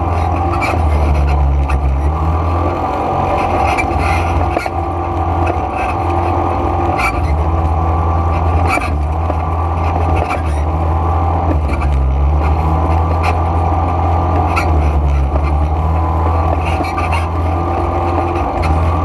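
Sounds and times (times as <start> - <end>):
atv engine droning: 0.0 - 19.0.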